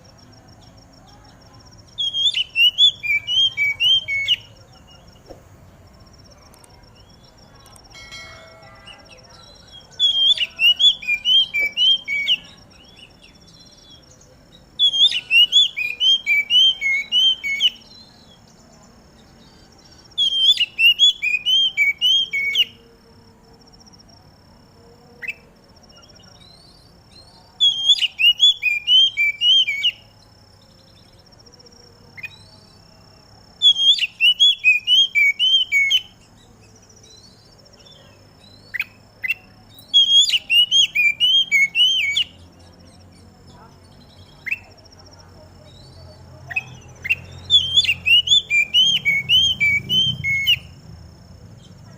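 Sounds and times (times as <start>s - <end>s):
bird chattering song: 0.0s - 5.4s, 6.0s - 22.9s, 25.2s - 50.8s.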